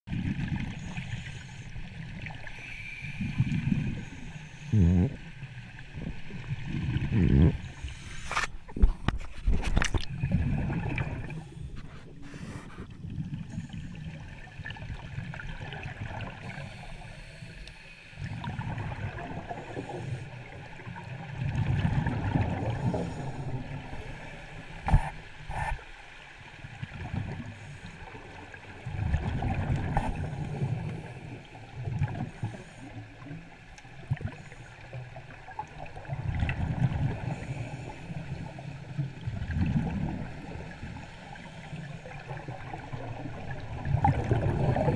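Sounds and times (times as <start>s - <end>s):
underwater regulator bubbles gurgling: 0.1s - 25.8s, 26.8s - 44.9s.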